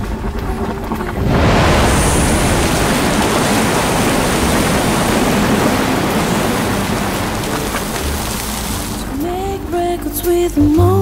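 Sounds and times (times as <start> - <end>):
geyser erupting water rush: 0.0 - 9.7.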